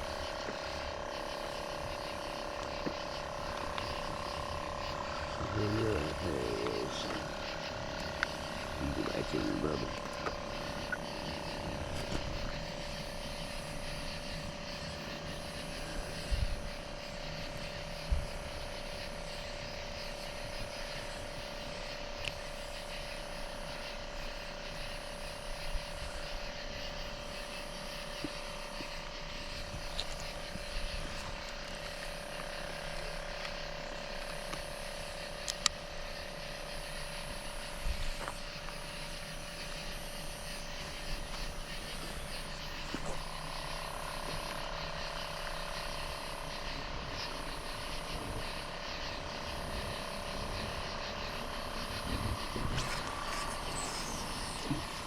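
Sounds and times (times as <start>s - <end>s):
insects buzzing high: 0.0s - 55.0s
low insect drone: 0.0s - 55.0s.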